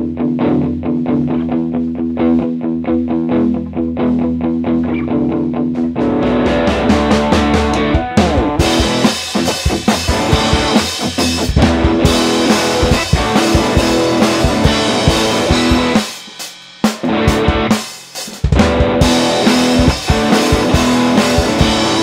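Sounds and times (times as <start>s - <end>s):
drum kit rock rhythm: 0.0s - 22.0s
overdriven electric guitar: 0.0s - 22.0s.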